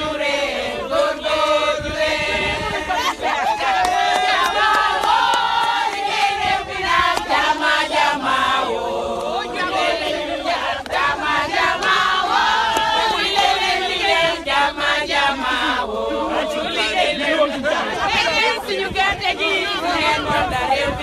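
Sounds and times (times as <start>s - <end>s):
crowd singing and chanting: 0.0s - 21.0s.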